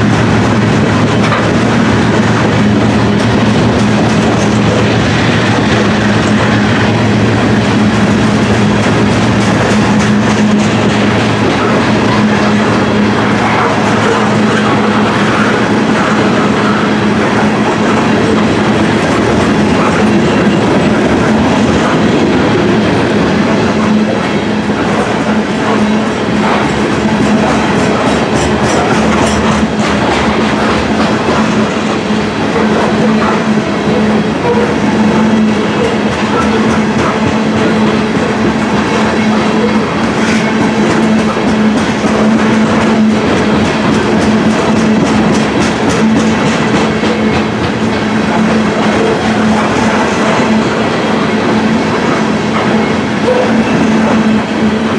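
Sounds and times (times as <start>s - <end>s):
wheels clicking over rail joints: 0.0s - 6.4s, 8.0s - 50.8s
freight train rolling past: 0.0s - 54.9s.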